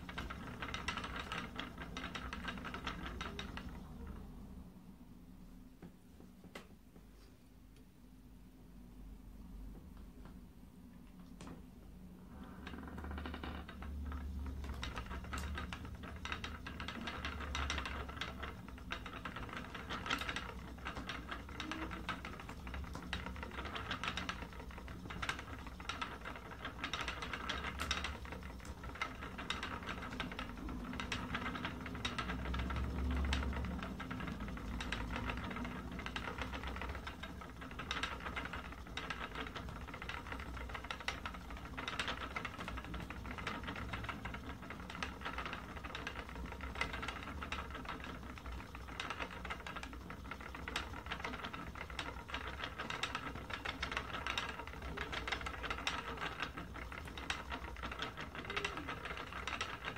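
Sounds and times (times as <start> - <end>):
spinning wheel clicking and knocking: 0.0 - 4.4, 12.3 - 59.9.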